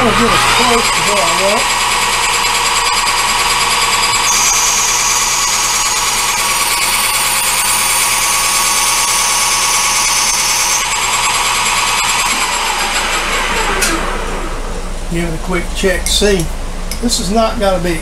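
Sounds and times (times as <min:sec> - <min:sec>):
lathe motor running: 0:00.0 - 0:17.0
high cutting whine: 0:00.0 - 0:18.0.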